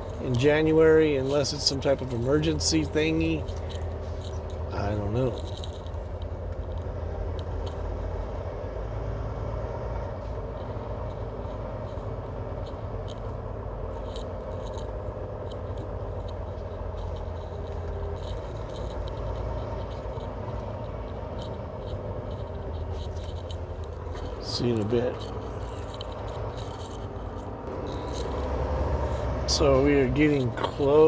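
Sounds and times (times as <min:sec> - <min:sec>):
light ticks and rattles: 0:00.0 - 0:31.0
truck engine drone in cab: 0:00.0 - 0:31.0.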